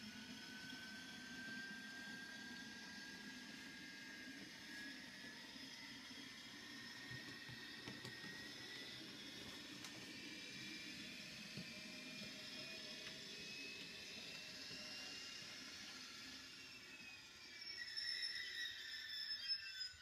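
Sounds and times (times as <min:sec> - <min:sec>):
model train motor whine: 0:00.0 - 0:20.0.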